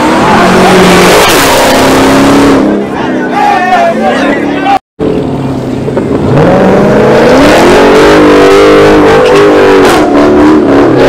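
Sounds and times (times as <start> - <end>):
car engine revving: 0.0 - 3.3, 4.4 - 11.0.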